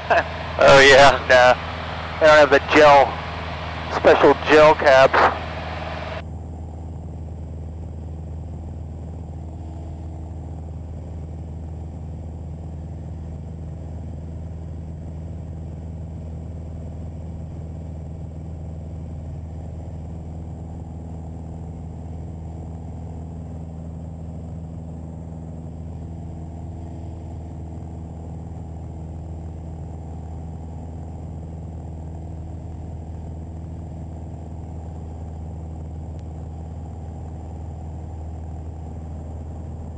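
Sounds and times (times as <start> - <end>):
aircraft engine and propeller droning: 0.0 - 39.9.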